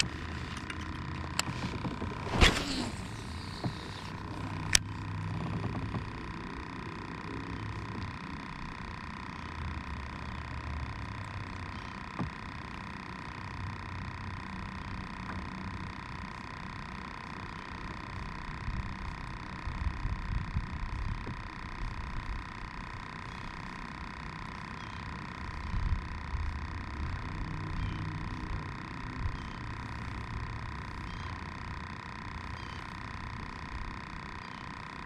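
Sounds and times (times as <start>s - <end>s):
steady thin whine: 0.0s - 35.0s.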